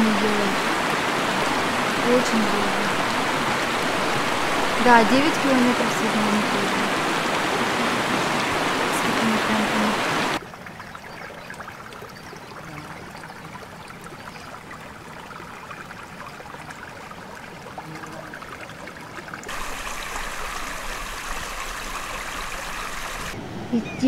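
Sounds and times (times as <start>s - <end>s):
mountain stream rushing: 0.0s - 10.8s, 12.8s - 23.8s.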